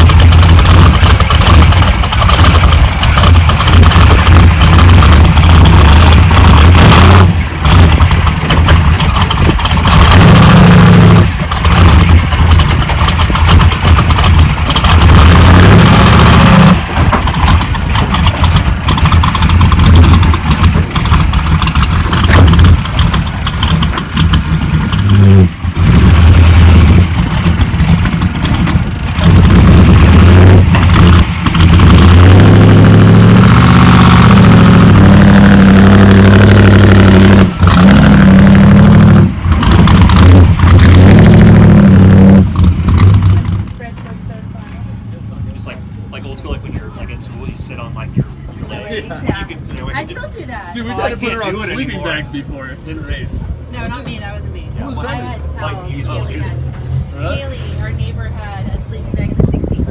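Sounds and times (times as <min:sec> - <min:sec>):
constant rushing noise: 0:00.0 - 0:59.9
race truck engine revving: 0:00.0 - 0:59.9.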